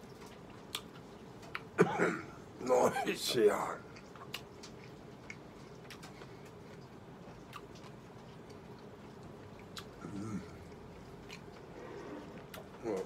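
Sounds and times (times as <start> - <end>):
person eating quietly: 0.0 - 13.0.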